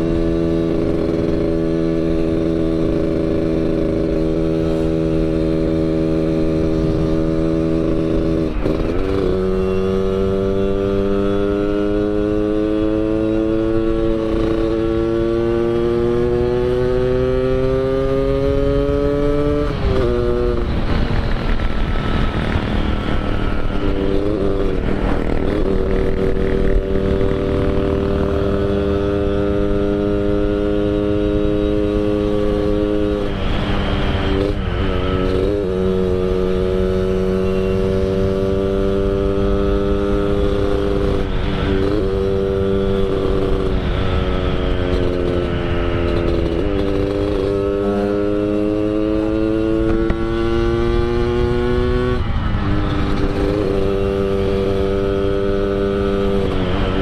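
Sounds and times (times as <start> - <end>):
two-stroke motorcycle engine: 0.0 - 57.0.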